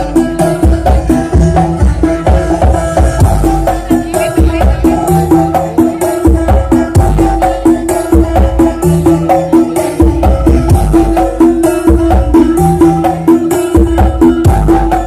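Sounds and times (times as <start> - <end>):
loud dance music with bass: 0.0 - 15.0.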